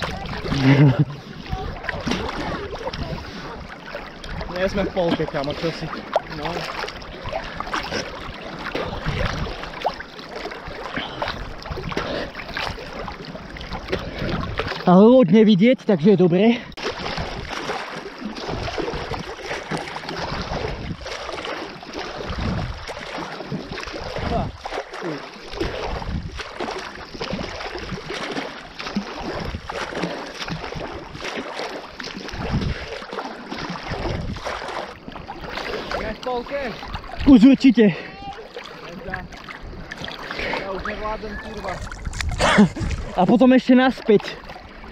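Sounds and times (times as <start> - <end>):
water splashing against camera: 0.0 - 44.9.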